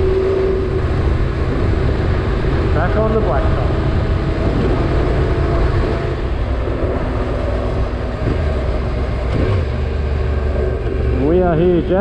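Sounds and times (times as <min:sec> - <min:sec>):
motorcycle engine cruising: 0:00.0 - 0:12.0
wind noise: 0:00.0 - 0:12.0.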